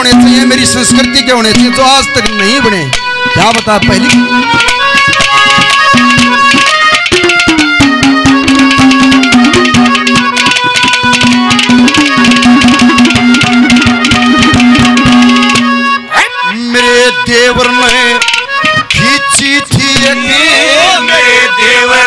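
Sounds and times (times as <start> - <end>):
hand-drum strokes: 0.0 - 16.4, 17.3 - 21.2
held melody note: 0.0 - 22.0.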